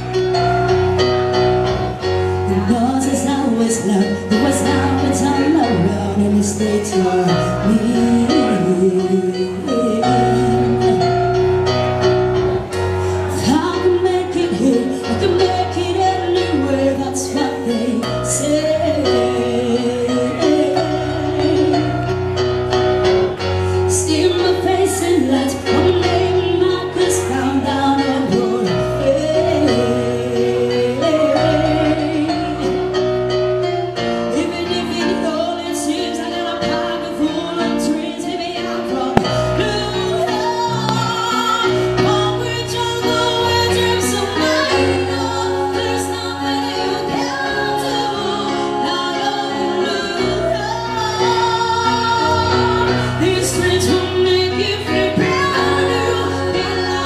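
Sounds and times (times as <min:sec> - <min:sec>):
live band: 0:00.0 - 0:57.0
woman singing through microphone: 0:02.3 - 0:22.9, 0:23.7 - 0:57.0.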